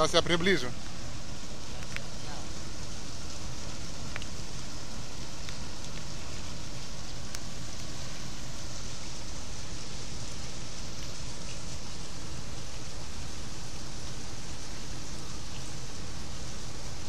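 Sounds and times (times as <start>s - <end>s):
water rushing: 0.0s - 17.0s
wind: 0.0s - 17.0s.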